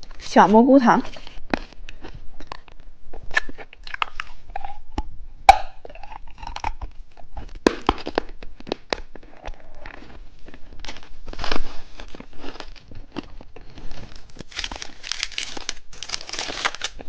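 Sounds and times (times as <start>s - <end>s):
chewing candy: 1.2s - 17.0s
candy cracking: 1.3s - 17.0s.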